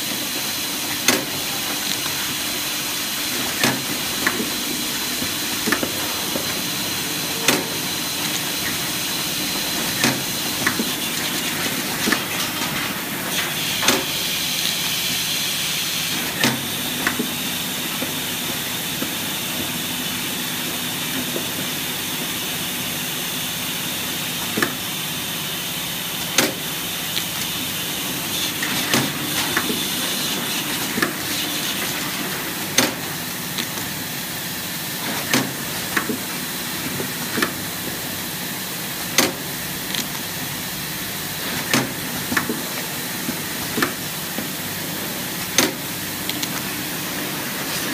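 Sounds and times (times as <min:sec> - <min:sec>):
machine hiss and hum: 0:00.0 - 0:47.9.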